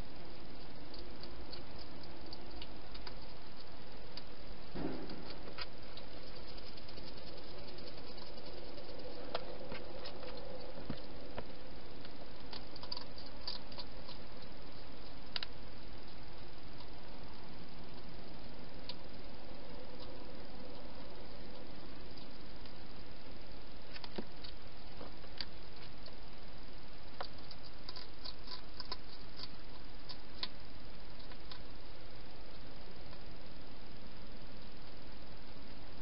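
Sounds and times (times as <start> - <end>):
small clicks and ticks: 0.0 - 4.4, 5.1 - 26.3, 27.1 - 31.8
hedgehog rustling and eating: 0.0 - 35.8
steady hiss: 0.0 - 36.0.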